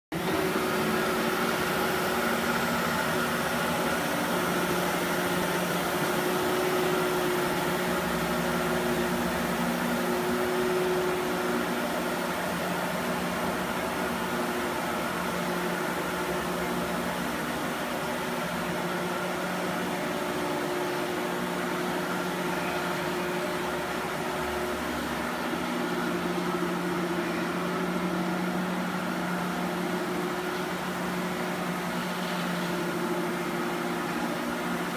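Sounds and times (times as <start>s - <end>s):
scrubber motor hum and whine: 0.2s - 34.9s.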